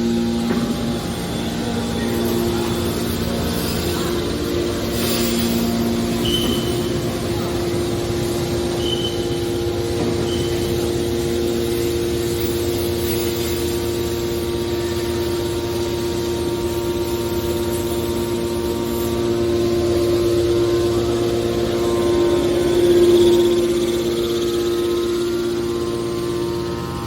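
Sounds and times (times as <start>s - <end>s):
hydraulic power unit humming: 0.0s - 27.0s.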